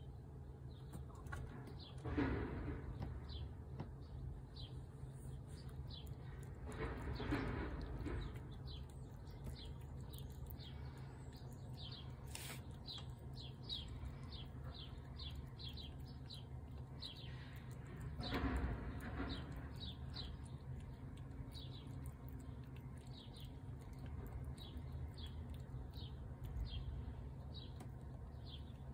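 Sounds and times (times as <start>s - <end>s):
low outdoor rumble: 0.0s - 28.9s
small bird chirping: 3.2s - 28.9s.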